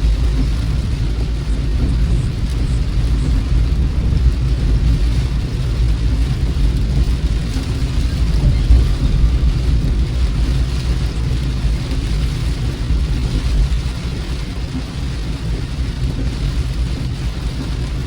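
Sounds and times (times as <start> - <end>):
car interior rumble: 0.0 - 18.0
rain and wet road hiss: 0.0 - 18.0.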